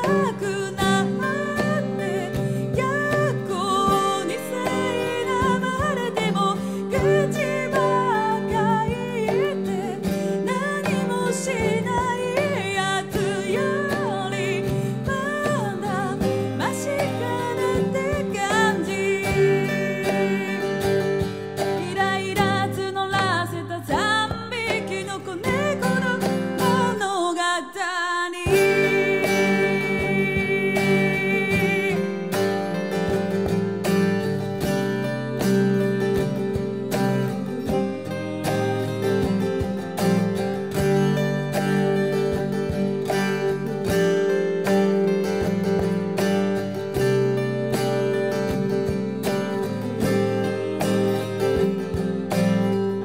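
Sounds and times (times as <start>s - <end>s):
acoustic guitar: 0.0s - 53.0s
woman singing: 0.0s - 53.0s.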